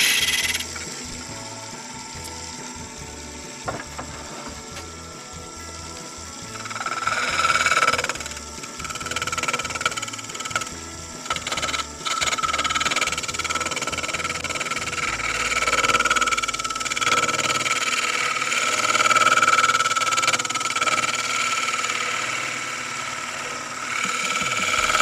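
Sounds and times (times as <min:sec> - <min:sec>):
turning tool scraping wood: 0:00.0 - 0:22.4, 0:23.6 - 0:25.0
wood lathe whining: 0:00.0 - 0:25.0.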